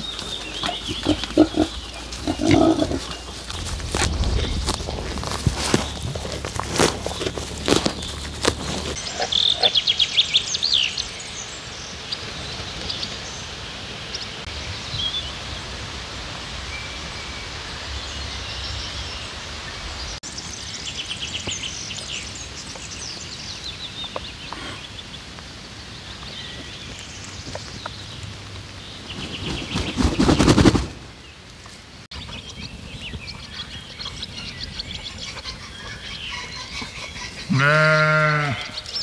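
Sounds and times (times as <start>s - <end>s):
small birds singing: 0.0s - 15.6s, 16.6s - 39.0s.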